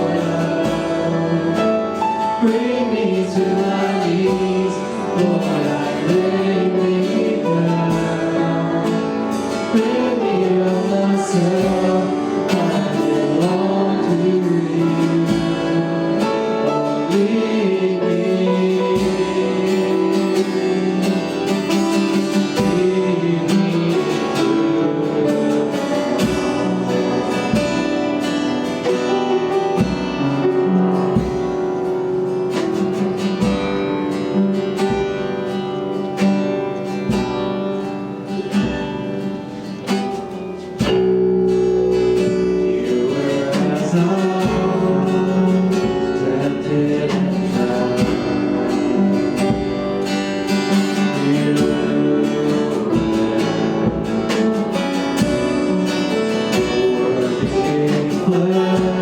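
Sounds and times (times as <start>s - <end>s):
person singing: 0.0s - 34.8s, 39.4s - 59.0s
strummed acoustic guitar: 0.0s - 59.0s.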